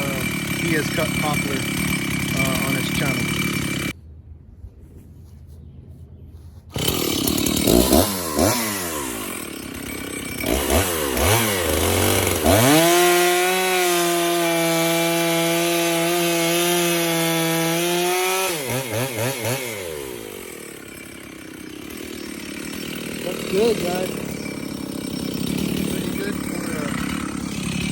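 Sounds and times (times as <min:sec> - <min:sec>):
chainsaw revving and cutting log: 0:00.0 - 0:04.0, 0:06.7 - 0:27.9.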